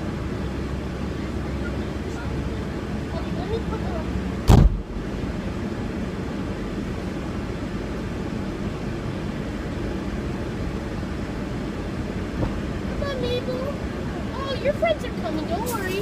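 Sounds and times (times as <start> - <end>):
air conditioning hum: 0.0 - 16.0
car engine idling: 0.0 - 16.0.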